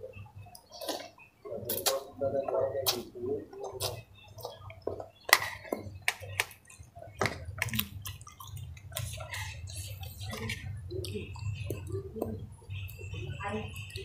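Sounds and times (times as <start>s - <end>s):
chewing and smacking: 0.4s - 2.2s, 2.8s - 14.0s.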